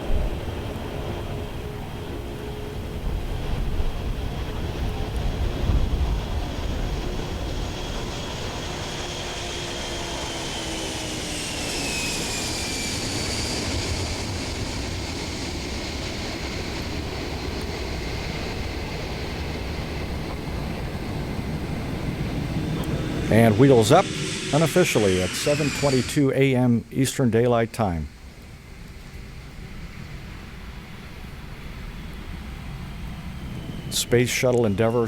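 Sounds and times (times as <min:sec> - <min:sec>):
high jet whine: 0:00.0 - 0:35.0
jet engines rumbling: 0:00.0 - 0:35.0.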